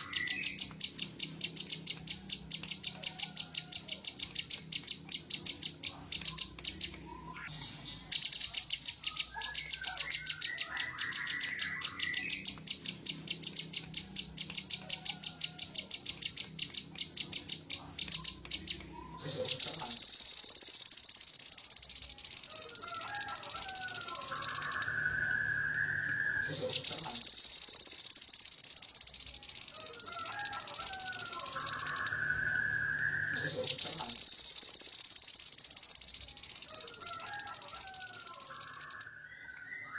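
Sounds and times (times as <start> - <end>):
insect trilling and buzzing: 0.0 - 39.1
bird whistling song phrases: 0.0 - 39.9.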